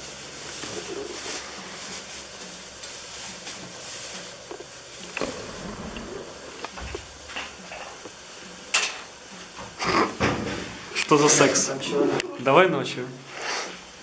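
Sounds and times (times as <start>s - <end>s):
gas stove hissing: 0.0s - 14.0s.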